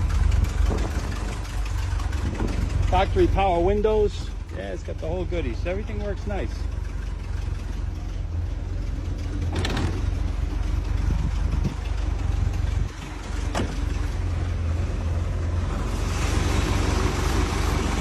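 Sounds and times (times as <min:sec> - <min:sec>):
engine idling with deep rumble: 0:00.0 - 0:18.0.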